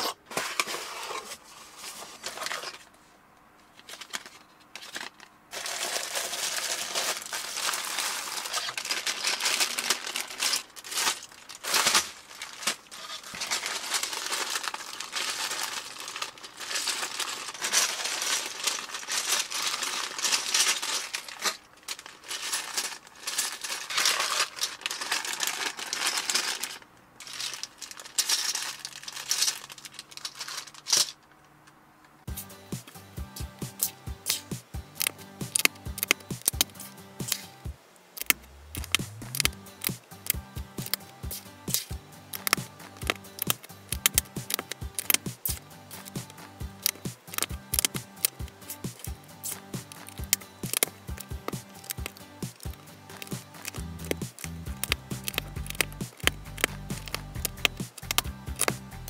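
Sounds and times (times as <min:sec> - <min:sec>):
plastic bags crinkling: 0:03.7 - 0:31.2, 0:33.6 - 0:37.5, 0:38.1 - 0:59.0
plastic bricks shifting: 0:03.7 - 0:31.2, 0:35.0 - 0:37.4, 0:38.2 - 0:59.0.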